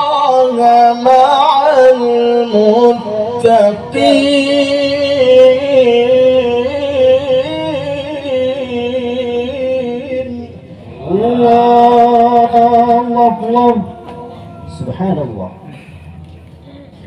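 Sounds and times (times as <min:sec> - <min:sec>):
man chanting through a microphone: 0:00.0 - 0:16.0.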